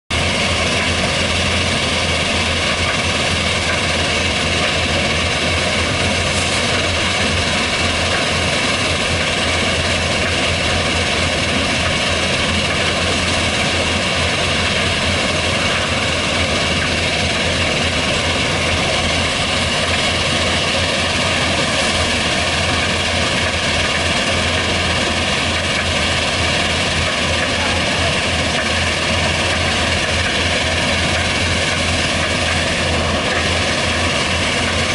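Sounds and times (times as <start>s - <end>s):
diesel machinery droning: 0.1s - 34.9s.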